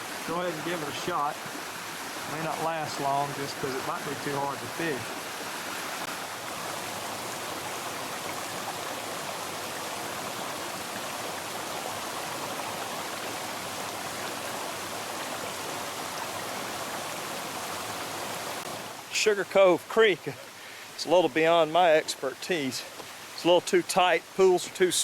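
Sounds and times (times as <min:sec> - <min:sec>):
creek water rushing over rocks: 0:00.0 - 0:25.0.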